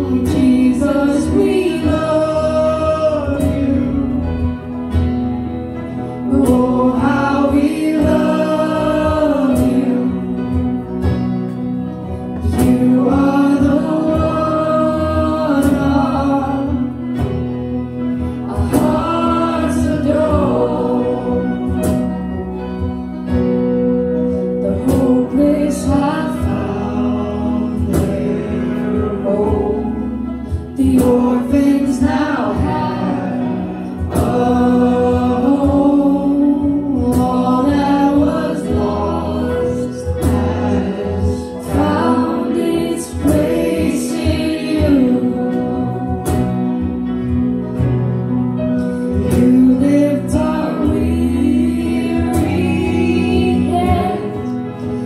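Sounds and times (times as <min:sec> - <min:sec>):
voices singing together: 0:00.0 - 0:11.3, 0:12.1 - 0:22.5, 0:24.3 - 0:47.4, 0:48.8 - 0:55.0
acoustic guitar: 0:00.0 - 0:55.0
keyboard: 0:00.0 - 0:55.0.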